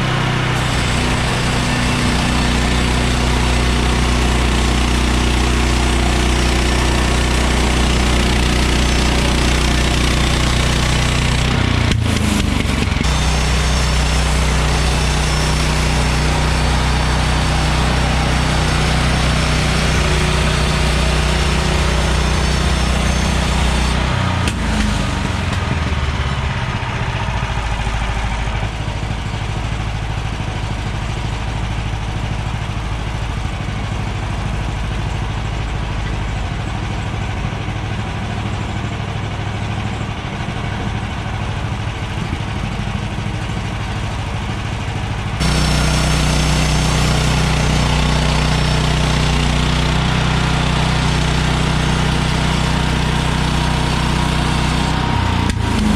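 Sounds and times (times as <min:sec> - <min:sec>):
sawmill gasoline engine running: 0:00.0 - 0:55.9.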